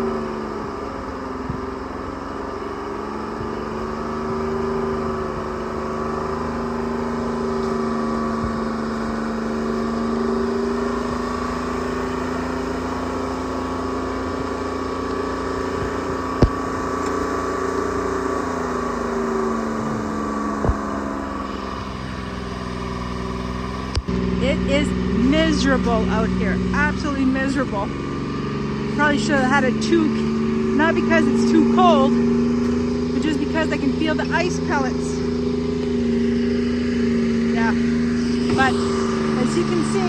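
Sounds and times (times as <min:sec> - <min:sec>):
forwarder engine running: 0:00.0 - 0:40.0.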